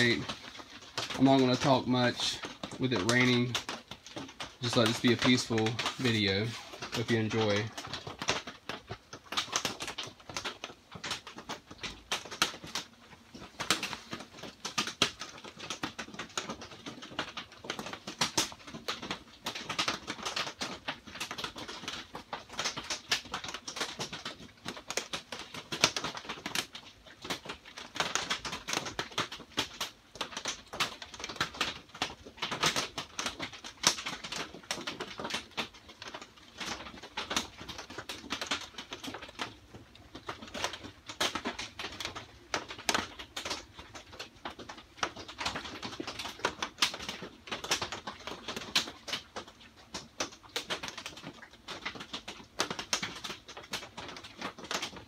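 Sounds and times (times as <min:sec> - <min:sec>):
rain on a plastic roof: 0:00.0 - 0:55.0.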